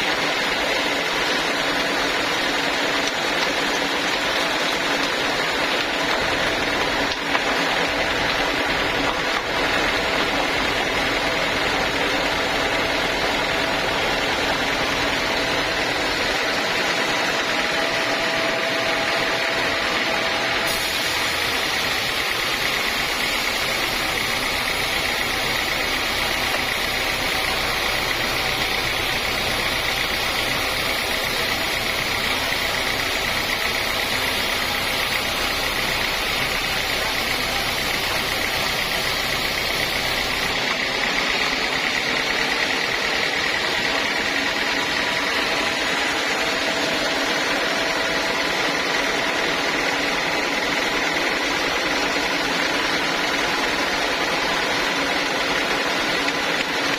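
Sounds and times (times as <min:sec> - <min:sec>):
sawmill saw droning: 0:00.0 - 0:56.9.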